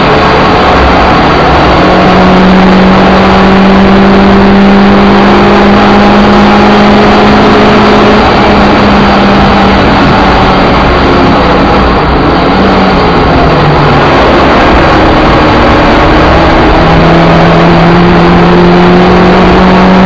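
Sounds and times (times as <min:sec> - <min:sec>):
car engine revving under load: 0:00.0 - 0:20.0.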